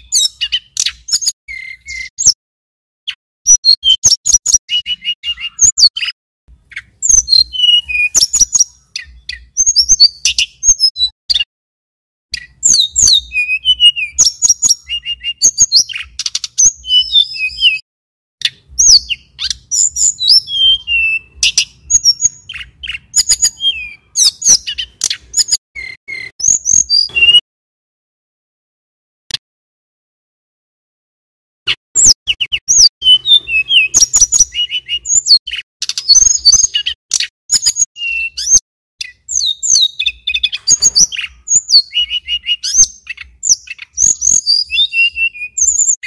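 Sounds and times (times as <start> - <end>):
bird chirping and trilling: 0.0 - 2.4, 3.1 - 11.5, 12.3 - 17.8, 18.4 - 27.4, 31.7 - 46.0.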